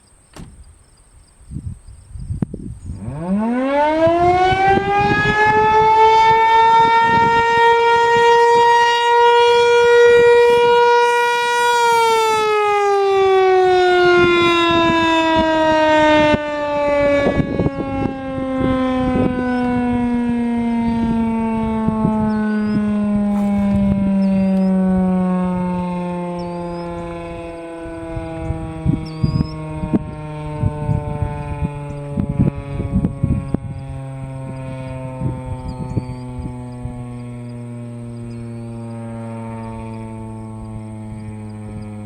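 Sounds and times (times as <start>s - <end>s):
warning siren winding: 3.0s - 42.0s.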